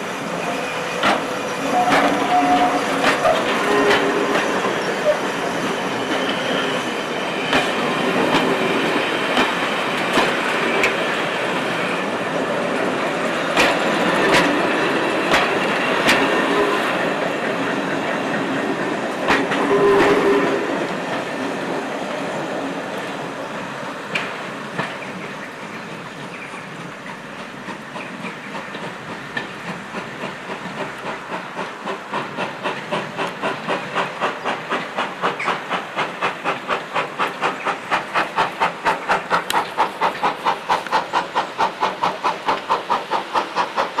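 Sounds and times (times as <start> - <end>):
locomotive chuffing: 0.0 - 44.0
steam locomotive hissing steam: 0.0 - 44.0.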